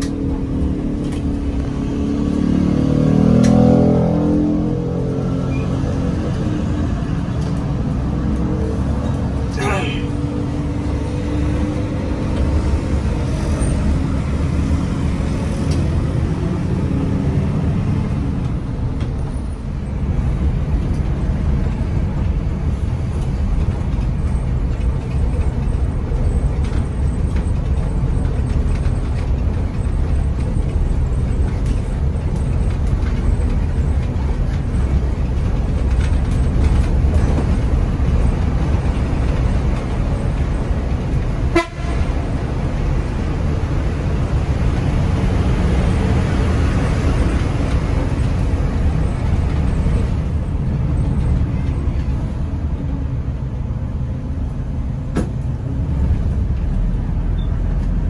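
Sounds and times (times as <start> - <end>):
bus diesel engine: 0.0 - 58.0
road noise: 0.0 - 58.0.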